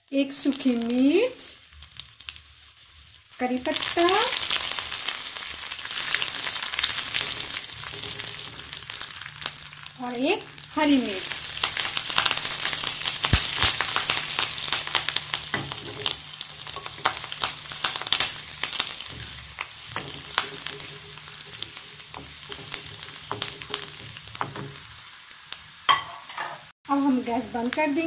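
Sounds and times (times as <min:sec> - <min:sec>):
spices crackling in hot oil: 0:00.0 - 0:28.0.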